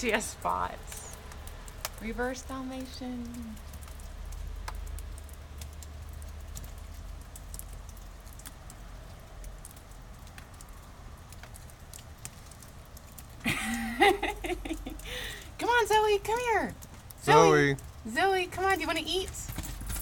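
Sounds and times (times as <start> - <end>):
ice ticking and crackling: 0.0 - 20.0.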